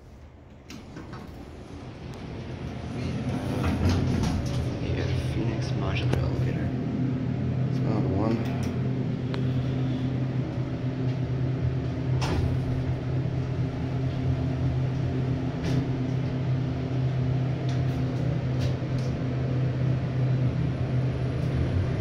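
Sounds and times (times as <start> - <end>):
elevator doors closing: 0.0 - 22.0
elevator hum: 0.0 - 22.0.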